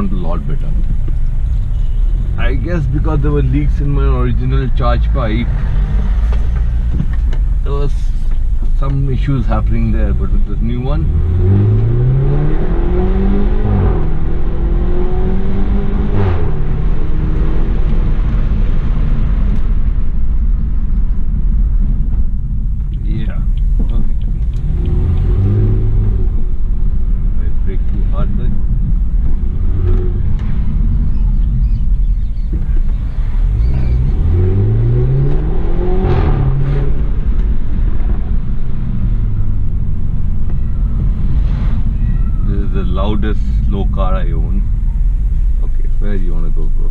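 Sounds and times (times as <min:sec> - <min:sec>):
car engine accelerating: 0:00.0 - 0:46.9
road rumble: 0:00.0 - 0:46.9.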